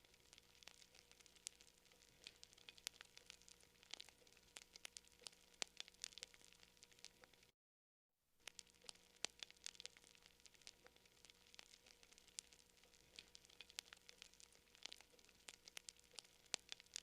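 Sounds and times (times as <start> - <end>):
campfire crackling: 0.0 - 7.5, 8.4 - 17.0
faint low hum: 0.0 - 7.5, 8.4 - 17.0.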